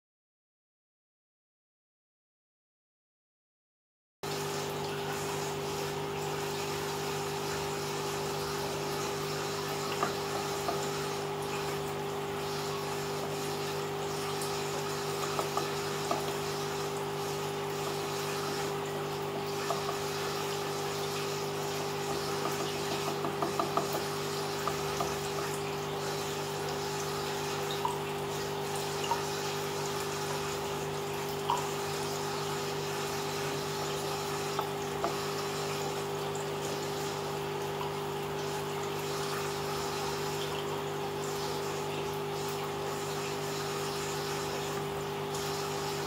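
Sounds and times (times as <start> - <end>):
aquarium filter pump humming: 4.2 - 46.0
water drips and splashes: 4.3 - 46.0
water trickling: 4.3 - 46.0.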